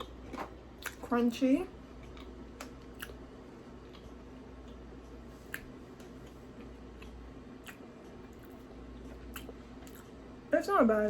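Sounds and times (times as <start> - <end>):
chewing crunchy cookie: 0.0 - 1.2, 1.8 - 10.3
low room hum: 0.0 - 11.0.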